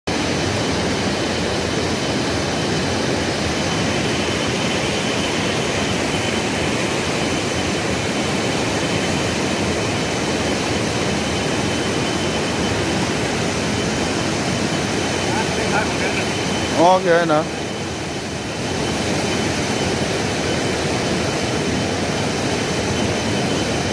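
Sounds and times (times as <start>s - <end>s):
swollen river rushing: 0.1s - 23.9s.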